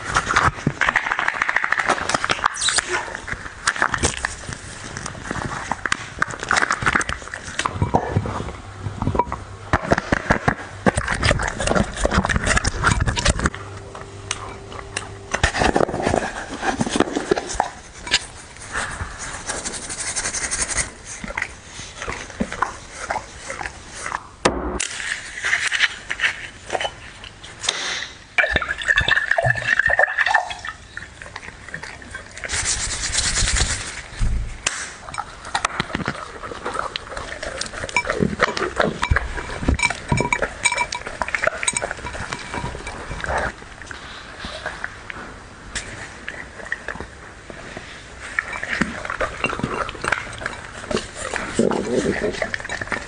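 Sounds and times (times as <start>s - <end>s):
dog chewing and lapping: 0.0s - 27.7s, 28.4s - 53.0s.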